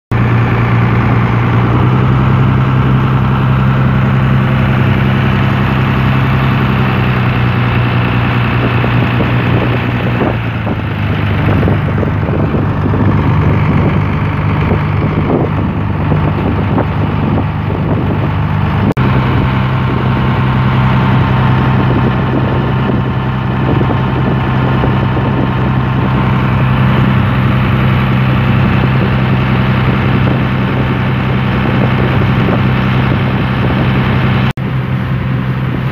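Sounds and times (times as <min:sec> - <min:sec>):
boat engine running: 0:00.1 - 0:35.9
water rushing along hull: 0:00.1 - 0:35.9.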